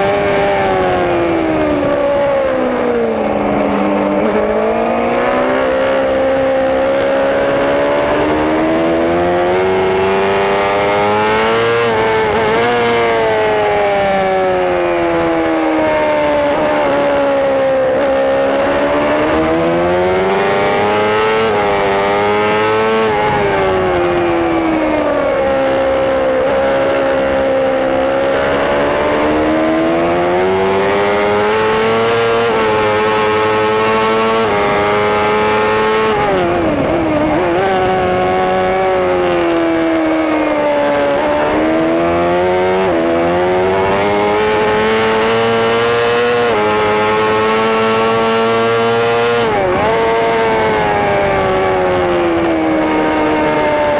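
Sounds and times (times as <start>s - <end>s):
racing motorcycle engine revving: 0.0s - 53.9s.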